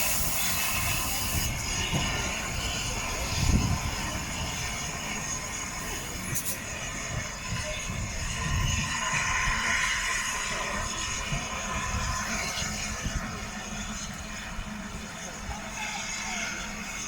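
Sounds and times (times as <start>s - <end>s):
wind buffeting microphone: 0.1s - 15.1s.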